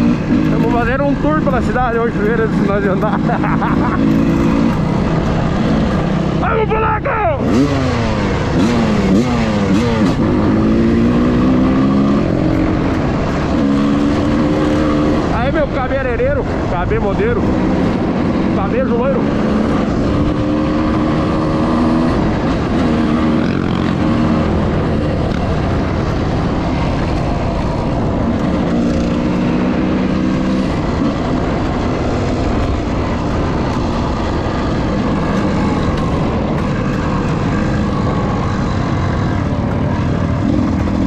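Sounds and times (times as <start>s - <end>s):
motorcycle engine running: 0.0s - 41.0s
steady rush of noise: 0.0s - 41.0s.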